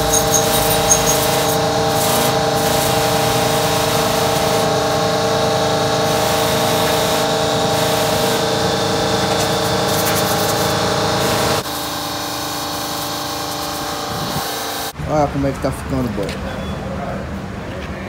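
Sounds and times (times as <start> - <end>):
welding arc hissing and crackling: 0.0 - 15.0.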